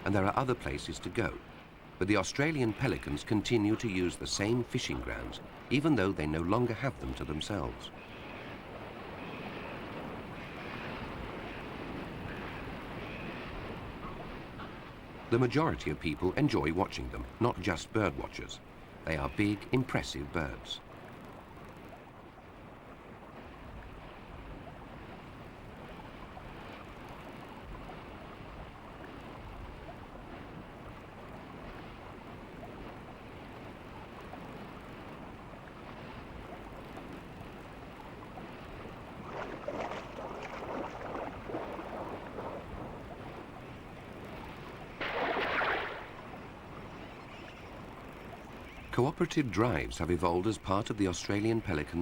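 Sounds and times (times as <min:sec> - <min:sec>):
coastal water washing: 0:00.0 - 0:52.0
wind: 0:00.0 - 0:52.0.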